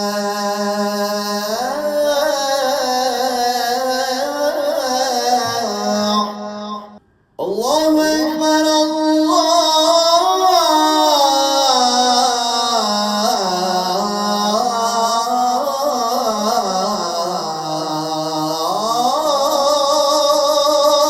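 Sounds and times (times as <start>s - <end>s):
muezzin singing call to prayer: 0.0s - 21.0s.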